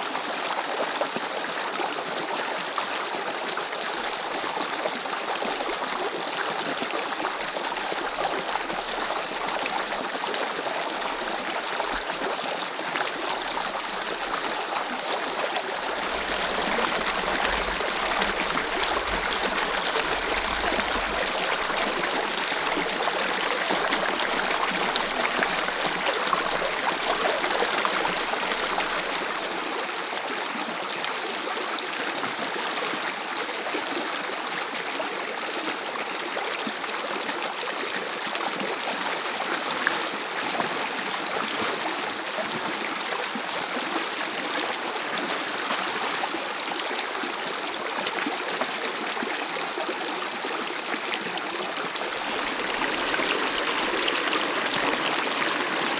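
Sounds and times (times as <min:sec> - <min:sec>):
stream running over stones: 0:00.0 - 0:55.9.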